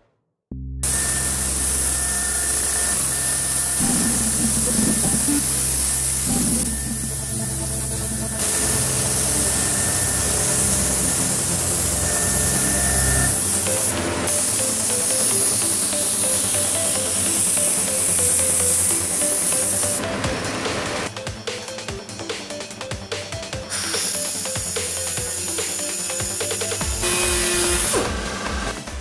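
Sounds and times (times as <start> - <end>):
spray gun hissing: 0.8 - 20.1, 23.7 - 27.9
background music: 3.0 - 29.0.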